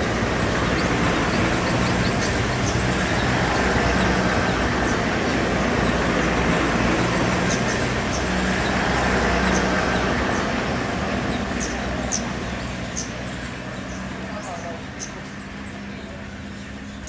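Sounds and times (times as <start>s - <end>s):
rumbling traffic noise: 0.0s - 17.0s
small birds chirping: 0.0s - 17.0s.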